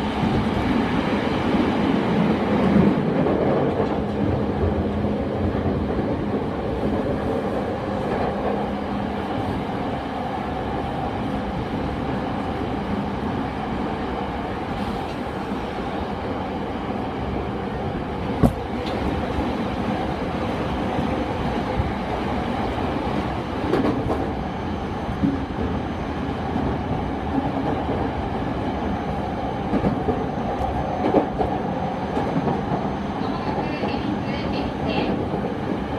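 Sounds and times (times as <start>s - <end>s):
electric train running at speed: 0.0s - 35.9s.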